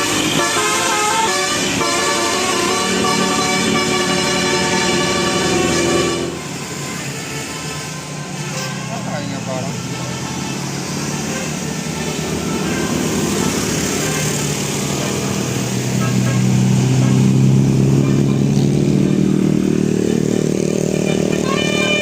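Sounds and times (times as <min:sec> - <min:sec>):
vehicle engine approaching: 0:00.0 - 0:22.0
vehicle horn: 0:00.0 - 0:22.0.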